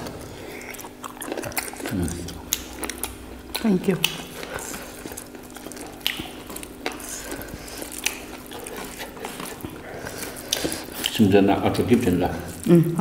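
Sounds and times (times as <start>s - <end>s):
wet chewing and lip smacks: 0.0s - 13.0s.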